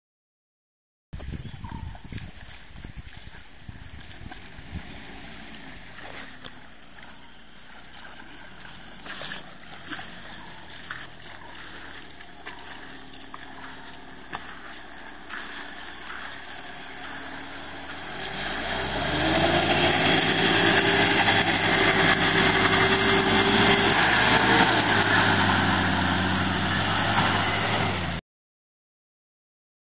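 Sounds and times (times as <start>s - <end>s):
water splashing around wheels: 1.2s - 28.2s
jeep engine driving: 1.6s - 28.2s.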